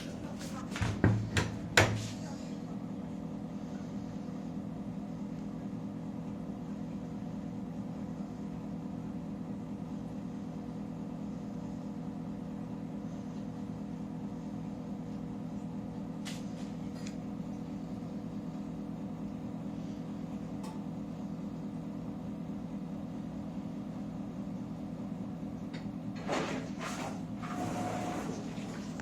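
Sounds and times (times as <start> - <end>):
dishwasher humming: 0.0 - 29.0.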